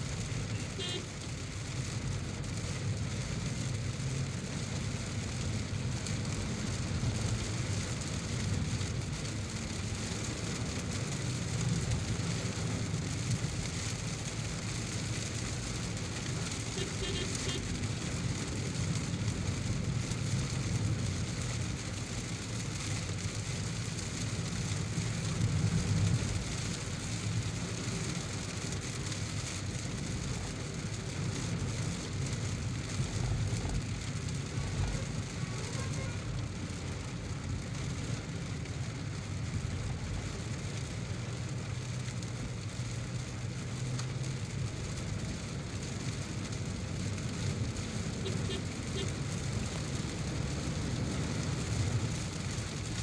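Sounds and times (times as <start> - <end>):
car engine and tyre rumble: 0.0 - 53.0
rain hiss and wet road noise: 0.0 - 53.0.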